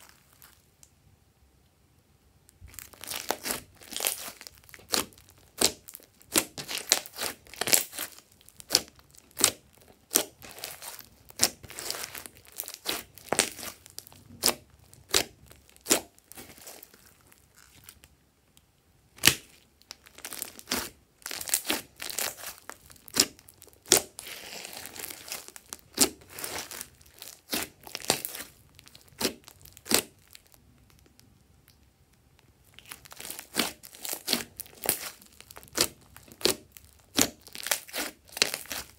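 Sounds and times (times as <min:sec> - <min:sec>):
slime crackling and popping: 0:02.6 - 0:18.1, 0:19.1 - 0:38.9.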